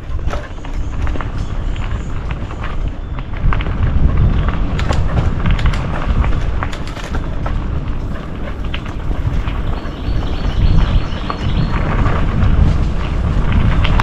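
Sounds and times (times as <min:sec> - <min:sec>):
bike rattles and clicks: 0:00.0 - 0:14.0
bike tyre rumble on dirt: 0:00.0 - 0:14.0
wind buffeting microphone: 0:00.0 - 0:14.0.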